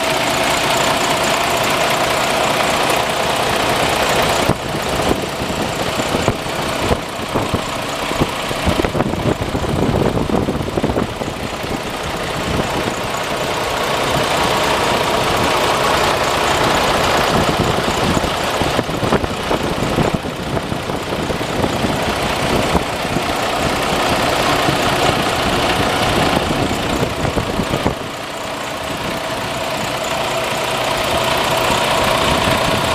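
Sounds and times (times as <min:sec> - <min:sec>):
diesel truck engine idling: 0:00.0 - 0:32.9.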